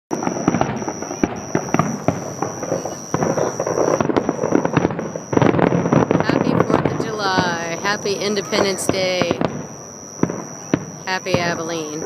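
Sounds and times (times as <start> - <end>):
fireworks bangs and crackling: 0.1 - 12.0
high-pitched whine: 0.1 - 12.0.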